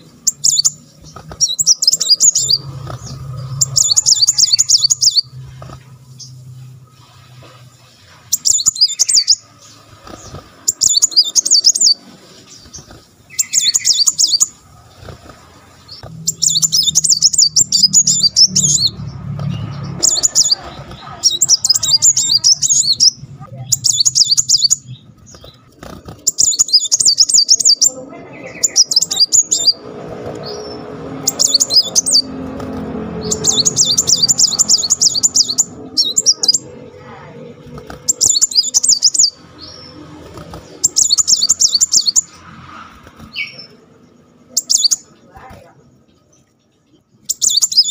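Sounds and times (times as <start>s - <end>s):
sunbird singing fast trills: 0.0s - 42.5s, 43.2s - 47.9s.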